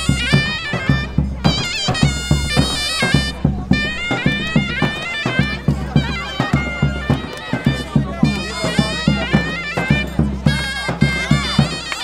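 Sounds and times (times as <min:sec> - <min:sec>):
shrill reed wind instrument melody: 0:00.0 - 0:12.0
steady drum beat: 0:00.0 - 0:12.0.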